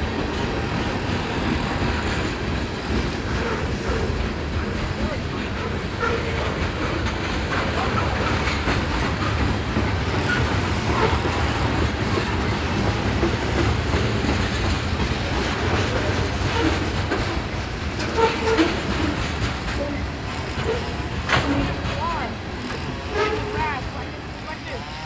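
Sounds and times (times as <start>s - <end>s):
steel wheels rumbling on rail: 0.0s - 25.0s
wheels clicking over rail joints: 0.1s - 25.0s.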